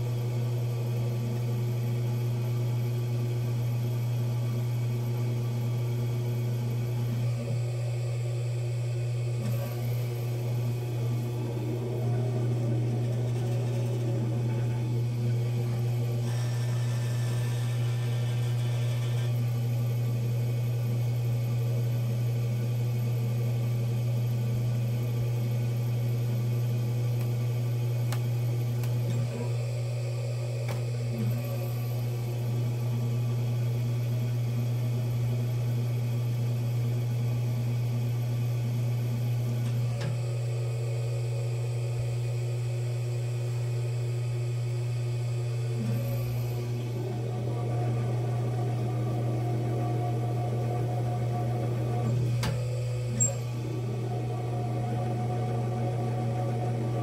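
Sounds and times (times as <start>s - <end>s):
pottery wheel motor humming: 0.0s - 57.0s.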